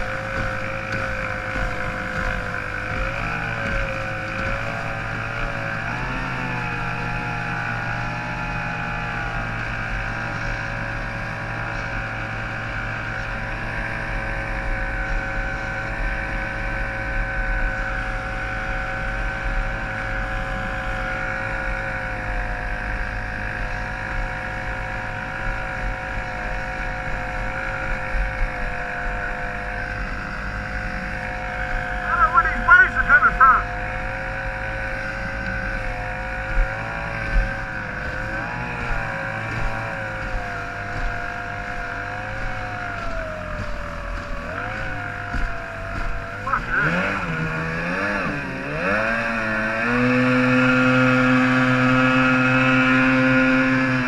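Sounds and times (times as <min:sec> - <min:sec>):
two-stroke outboard engine running: 0:00.0 - 0:54.0.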